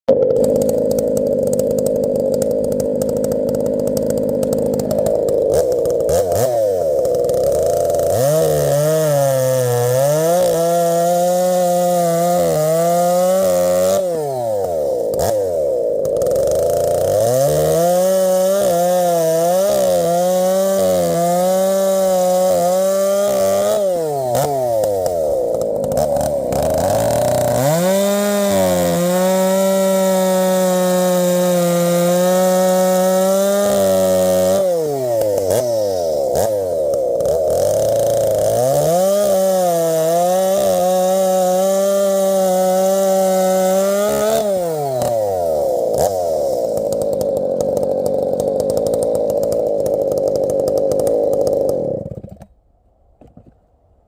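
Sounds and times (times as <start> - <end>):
chainsaw cutting wood: 0.1 - 53.7.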